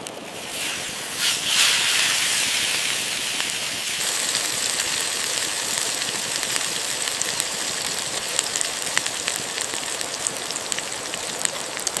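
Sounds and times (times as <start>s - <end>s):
campfire crackles and pops: 0.0s - 12.0s
fish sizzling on hot stone: 0.0s - 12.0s.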